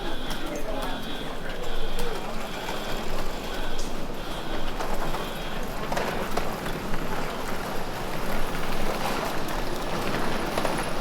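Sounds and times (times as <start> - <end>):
busy background noise: 0.0 - 11.0.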